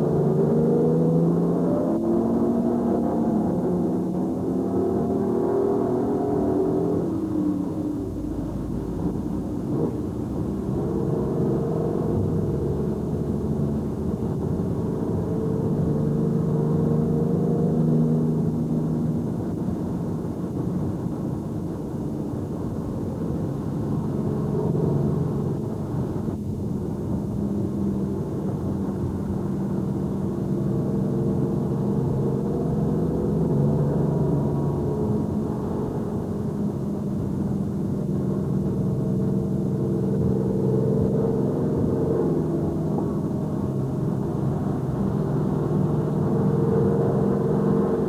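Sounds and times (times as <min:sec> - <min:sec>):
car engine: 0:00.0 - 0:48.0
tyres on wet road: 0:00.0 - 0:48.0.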